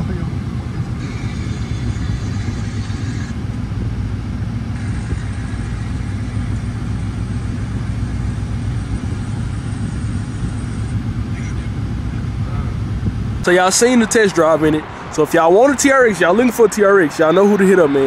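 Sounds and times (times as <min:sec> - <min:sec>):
engine idling with low rumble: 0:00.0 - 0:18.0.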